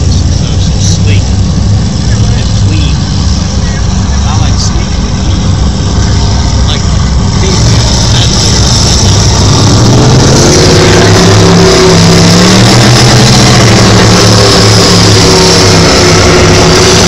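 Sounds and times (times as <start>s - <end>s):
powerboat engines droning: 0.0s - 17.0s
rushing noise: 0.0s - 17.0s.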